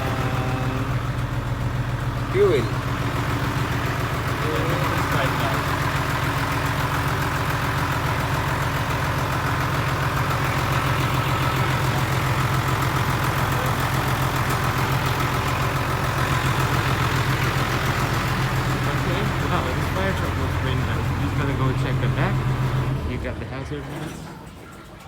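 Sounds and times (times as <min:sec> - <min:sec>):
fire truck engine idling: 0:00.0 - 0:25.0.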